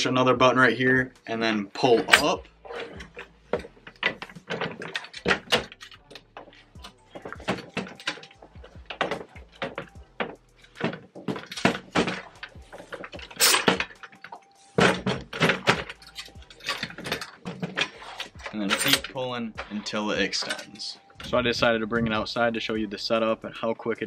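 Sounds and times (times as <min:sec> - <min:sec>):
metal tubes clicking and rattling: 0:00.0 - 0:24.0
metal frame clattering: 0:01.2 - 0:22.5.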